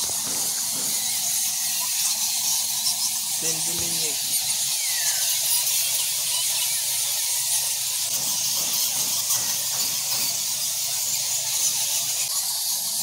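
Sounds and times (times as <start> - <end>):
bats squeaking and chattering: 0.0 - 13.0.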